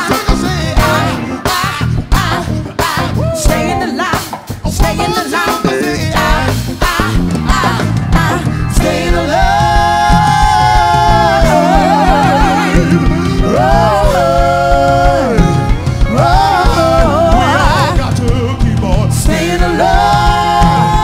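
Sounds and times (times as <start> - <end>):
funk band playing: 0.0 - 21.0
person singing with vibrato: 0.0 - 21.0.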